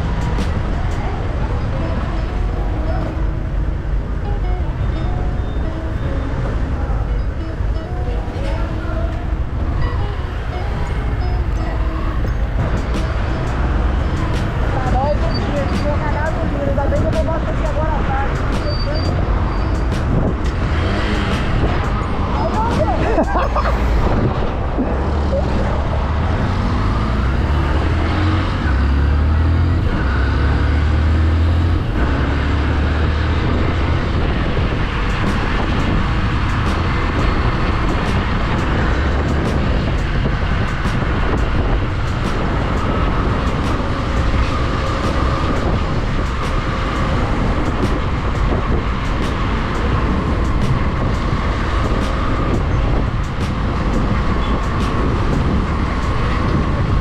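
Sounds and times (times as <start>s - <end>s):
wind and road noise: 0.0s - 57.0s.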